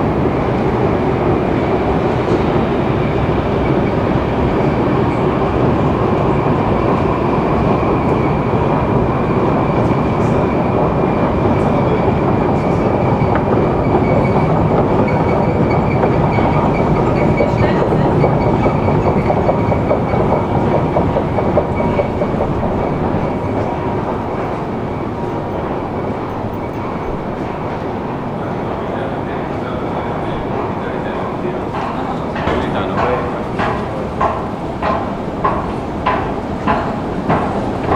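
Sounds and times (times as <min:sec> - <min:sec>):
metro machinery rumble: 0:00.0 - 0:37.9.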